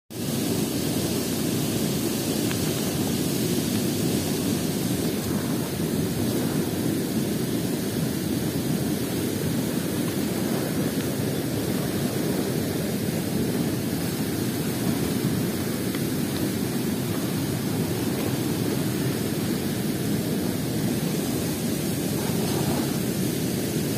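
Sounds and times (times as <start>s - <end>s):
river water rushing: 0.2s - 23.9s.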